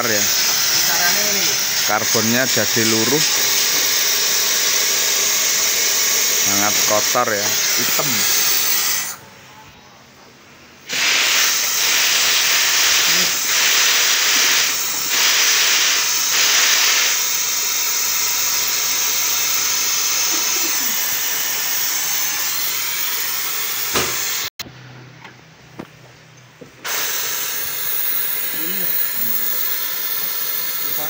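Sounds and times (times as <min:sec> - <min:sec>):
suction tool hissing: 0:00.0 - 0:09.2, 0:10.9 - 0:24.5, 0:26.8 - 0:31.0.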